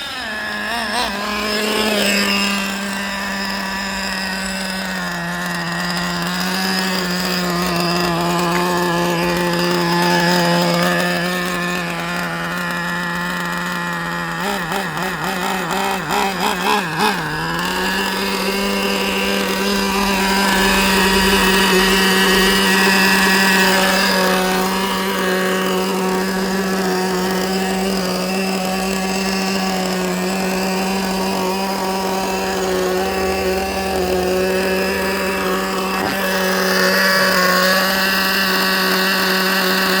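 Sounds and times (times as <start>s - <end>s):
small model engine running: 0.0s - 40.0s.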